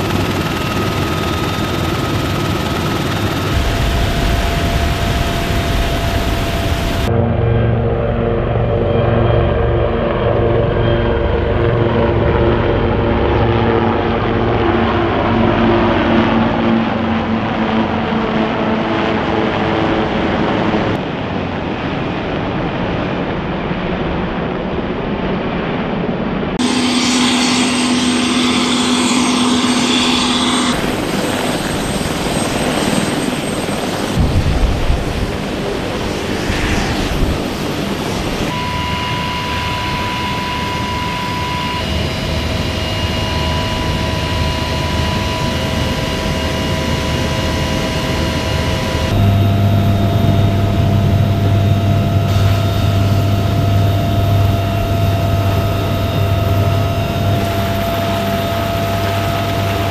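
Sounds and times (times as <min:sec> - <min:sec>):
helicopter low hum: 0:00.0 - 0:59.9
helicopter turbine whine: 0:00.0 - 0:59.9.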